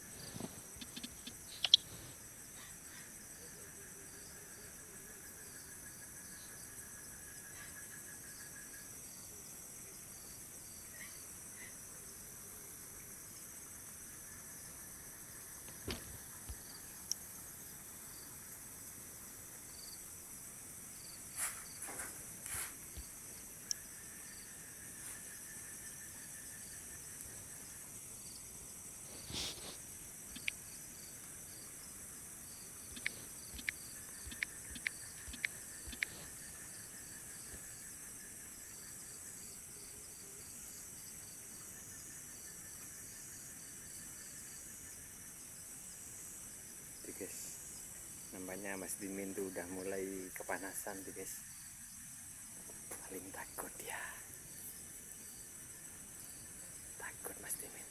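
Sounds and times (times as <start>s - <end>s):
crickets and insects chirring: 0.0s - 57.9s.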